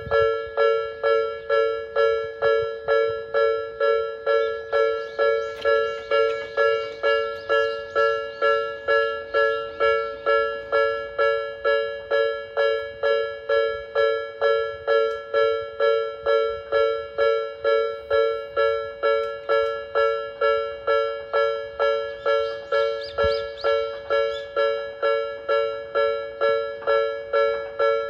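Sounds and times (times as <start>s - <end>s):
level-crossing alarm bell ringing: 0.0s - 28.0s.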